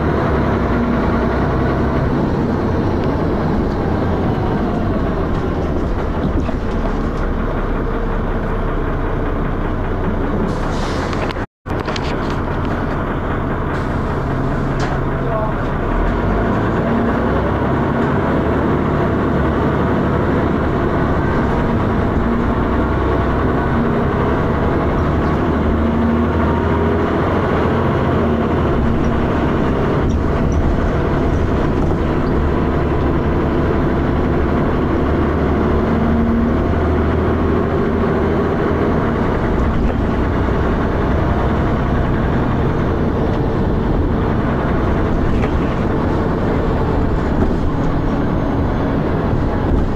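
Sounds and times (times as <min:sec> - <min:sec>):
bus diesel engine knocking: 0:00.0 - 0:49.9.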